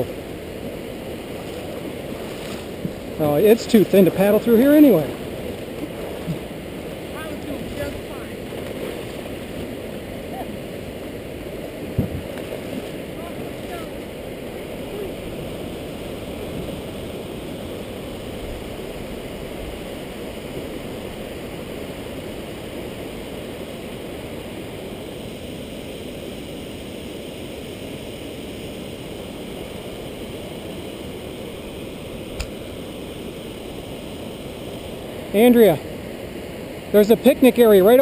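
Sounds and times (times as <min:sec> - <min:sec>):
river water rushing over rocks: 0:00.0 - 0:38.0.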